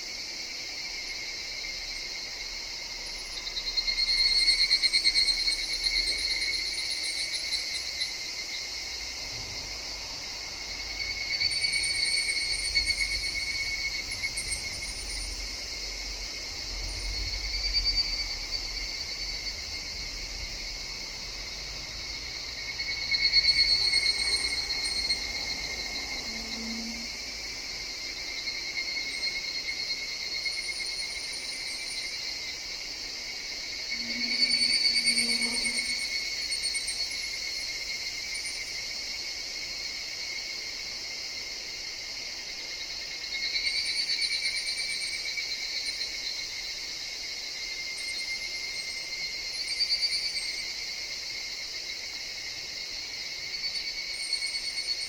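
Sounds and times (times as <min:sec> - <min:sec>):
evening cicadas calling: 0:00.0 - 0:55.0
high insect chorus: 0:00.0 - 0:55.0.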